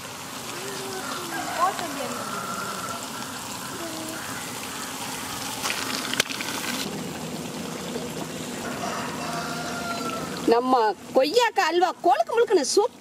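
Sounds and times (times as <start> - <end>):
food sizzling in a pan: 0.0 - 7.0, 8.5 - 12.9.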